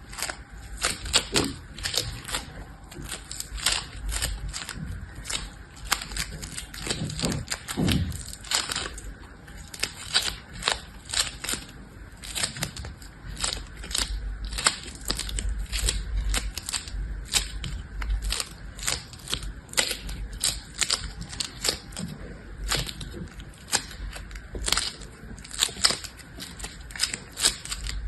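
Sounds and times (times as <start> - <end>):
crunching by hand: 0.0 - 28.0.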